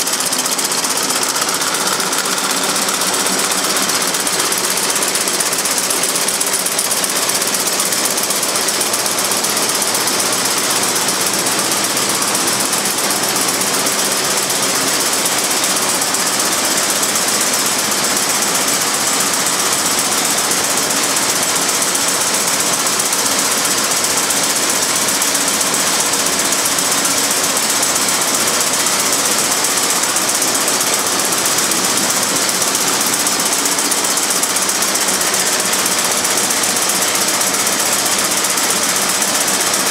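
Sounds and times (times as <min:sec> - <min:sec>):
textile machine clattering: 0:00.0 - 0:39.9.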